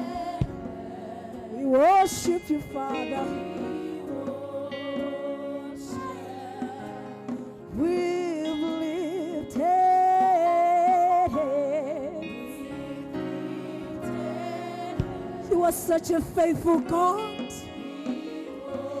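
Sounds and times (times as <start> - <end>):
gospel worship music: 0.0 - 19.0.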